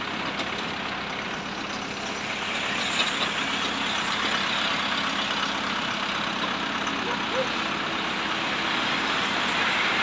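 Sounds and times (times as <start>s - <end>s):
motor vehicle hiss and rumble: 0.0s - 10.0s.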